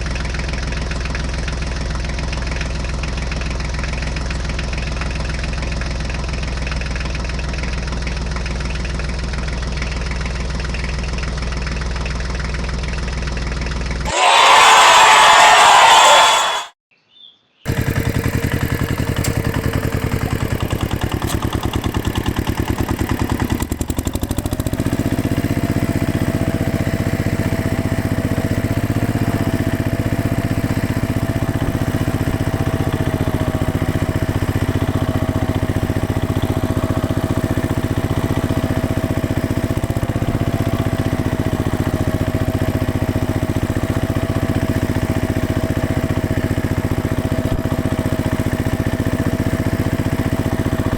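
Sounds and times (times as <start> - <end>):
engine running steadily: 0.0 - 14.0, 17.7 - 50.9.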